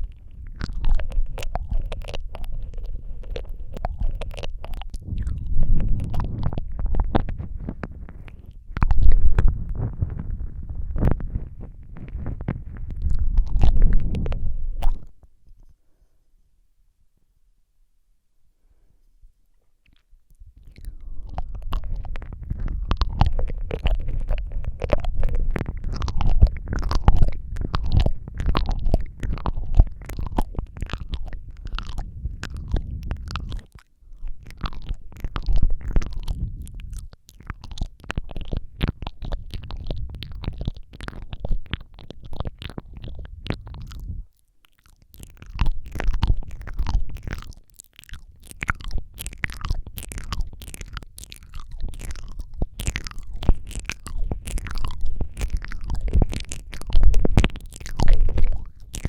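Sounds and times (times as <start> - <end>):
deep rumble: 0.0 - 15.2, 20.4 - 44.3, 45.2 - 59.0
wet mouth clicks and smacks: 0.0 - 15.7, 19.8 - 59.0.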